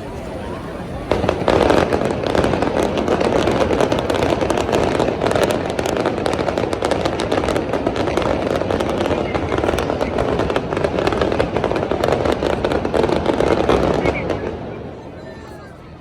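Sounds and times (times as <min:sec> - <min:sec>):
fireworks crackling: 0:00.0 - 0:15.2.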